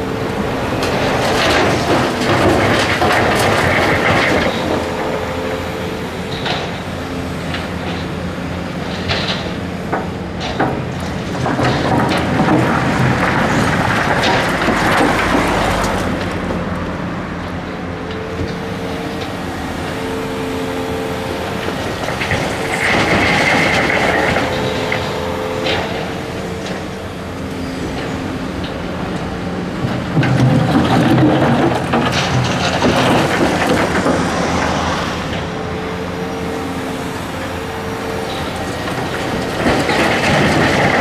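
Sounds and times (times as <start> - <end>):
excavator diesel engine and hydraulics: 0.0 - 41.0.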